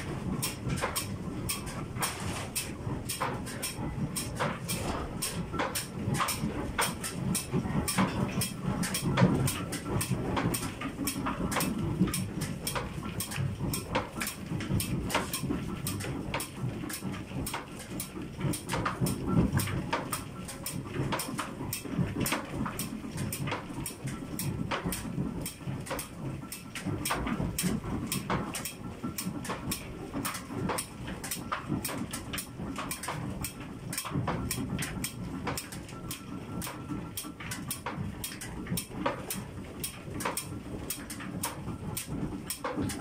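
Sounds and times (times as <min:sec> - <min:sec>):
mill machinery rumble: 0:00.0 - 0:43.0.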